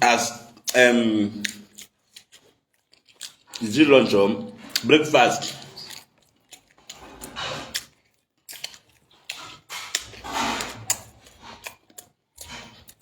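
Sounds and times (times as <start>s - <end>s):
chewing and mouth noises: 0.3s - 13.0s.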